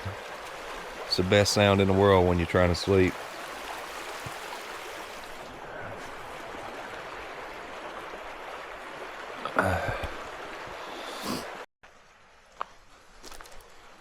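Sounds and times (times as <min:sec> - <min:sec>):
creek water rushing: 0:00.0 - 0:12.4.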